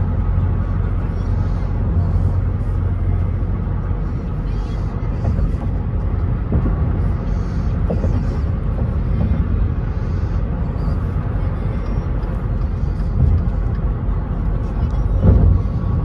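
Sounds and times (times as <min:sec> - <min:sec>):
car engine noise: 0:00.0 - 0:16.0
road and tyre rumble: 0:00.0 - 0:16.0.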